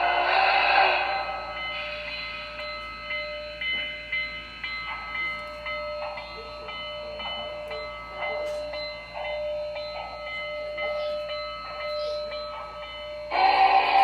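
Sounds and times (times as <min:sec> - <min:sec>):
soft steam exhaust chuffs: 0:00.0 - 0:14.0
steady hum of high tones: 0:00.0 - 0:14.0.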